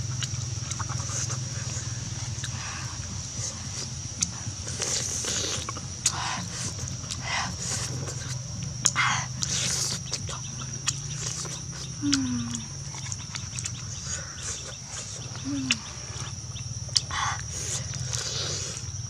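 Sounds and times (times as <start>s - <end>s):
high-pitched insect drone: 0.0s - 19.0s
wet chewing: 0.0s - 19.0s
lip smacking: 0.1s - 19.0s.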